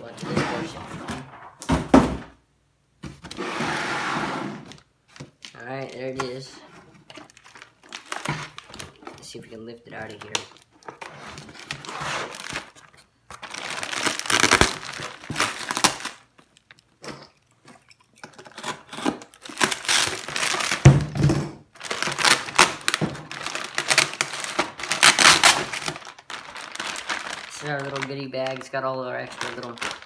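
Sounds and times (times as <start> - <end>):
plastic packaging and cardboard crinkling: 4.7 - 30.0.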